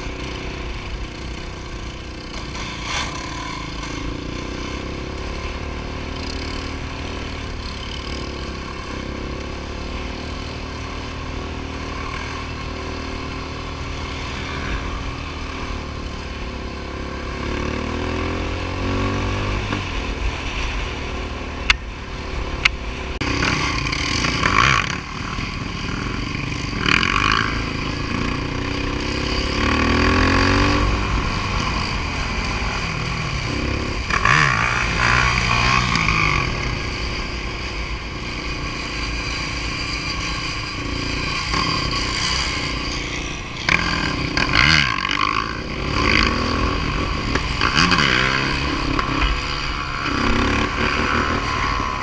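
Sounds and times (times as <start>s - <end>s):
quad engines revving: 0.0s - 20.1s, 23.2s - 52.0s.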